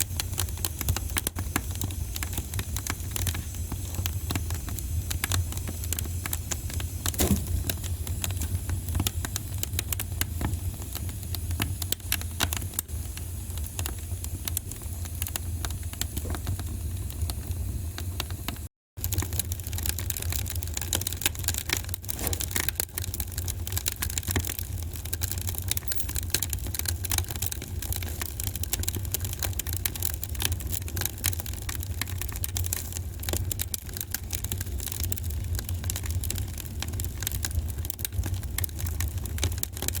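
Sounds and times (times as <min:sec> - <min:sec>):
low fire rumble: 0:00.0 - 0:40.0
wood fire crackling: 0:00.0 - 0:40.0.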